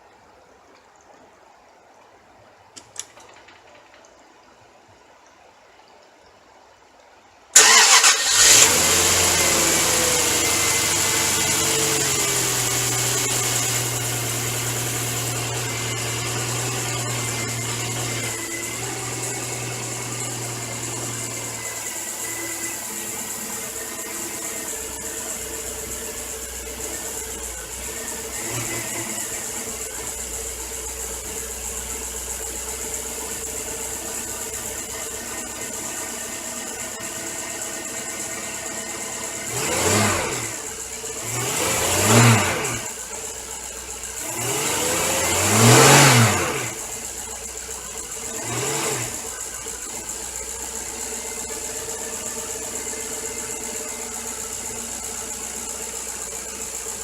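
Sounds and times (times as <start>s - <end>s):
car engine starting and idling: 7.5s - 57.0s.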